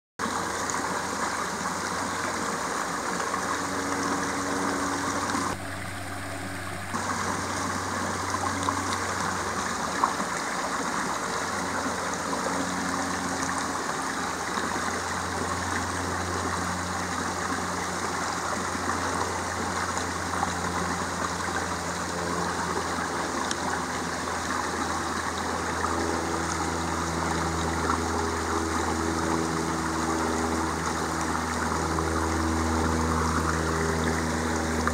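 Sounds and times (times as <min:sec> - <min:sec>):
low steady hum: 0:00.2 - 0:34.9
rocky creek rushing and trickling: 0:00.2 - 0:34.9.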